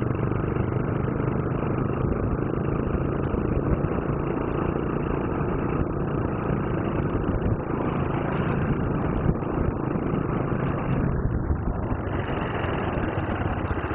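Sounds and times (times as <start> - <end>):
motorcycle engine rumbling: 0.0 - 13.9.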